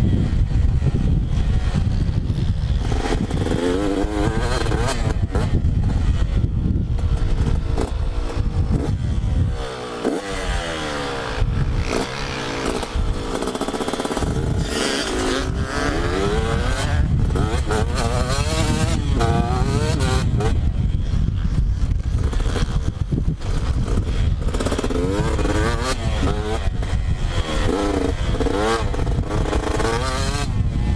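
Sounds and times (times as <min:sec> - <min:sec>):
motocross bike engine revving: 0:00.0 - 0:30.9
wind buffeting microphone: 0:00.0 - 0:30.9.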